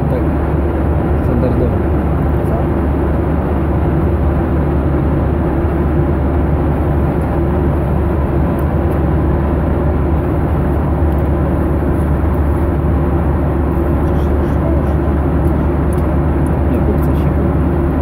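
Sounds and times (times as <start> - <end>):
jet engine cabin noise: 0.0 - 18.0.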